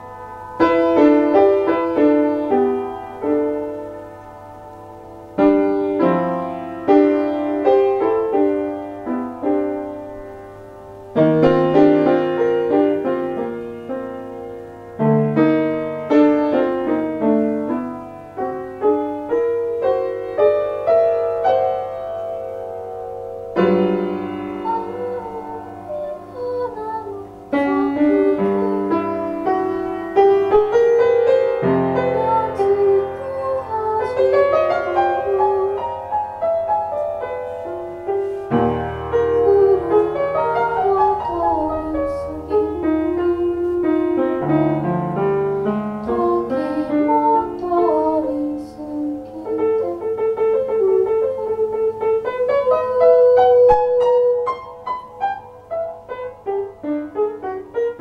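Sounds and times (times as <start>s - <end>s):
slow piano melody: 0.0s - 58.0s.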